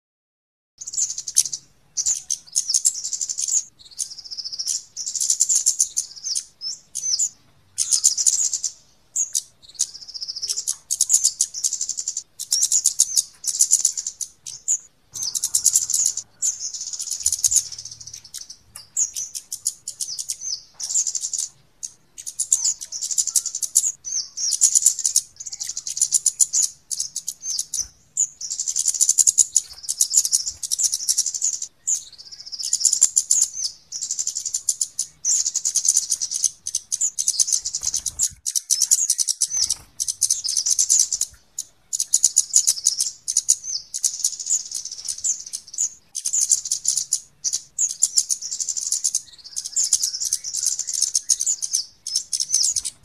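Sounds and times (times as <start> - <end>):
bird calls high-pitched ticking: 0.8 - 53.0.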